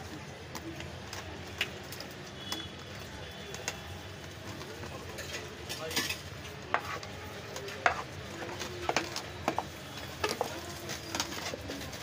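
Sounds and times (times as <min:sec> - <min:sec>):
dough stirred with wooden paddle: 0:00.0 - 0:12.0.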